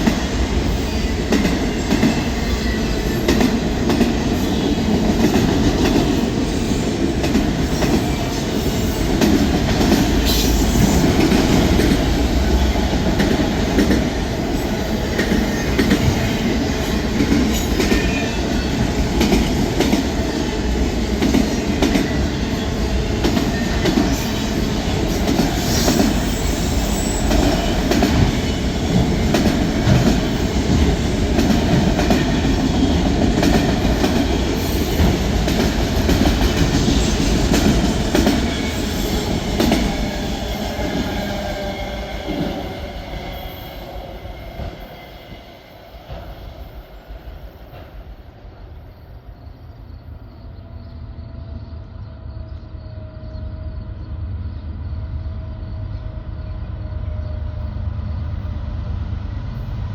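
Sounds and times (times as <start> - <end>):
freight train cars rolling past: 0.0 - 59.9.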